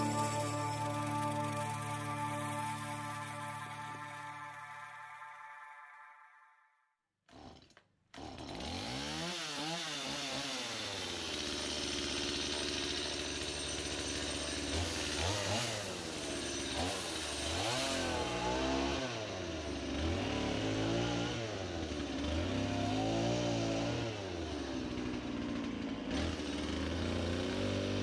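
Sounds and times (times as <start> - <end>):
chainsaw starting and revving: 0.0 - 4.8, 7.3 - 28.0.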